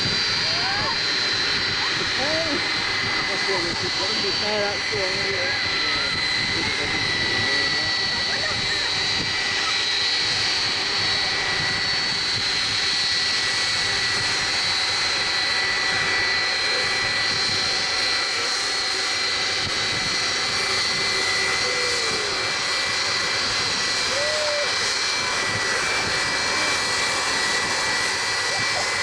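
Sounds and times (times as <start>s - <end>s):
jet engines hissing and whining: 0.0s - 29.0s.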